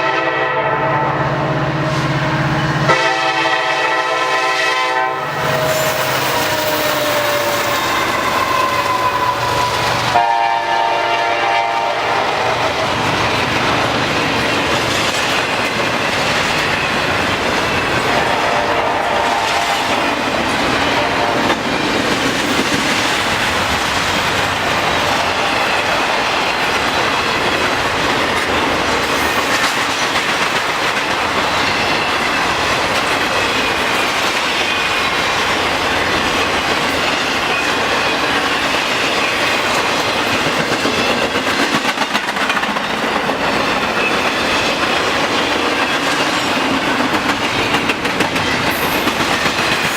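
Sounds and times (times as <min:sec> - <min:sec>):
freight train wheels clacking: 0:01.4 - 0:49.9.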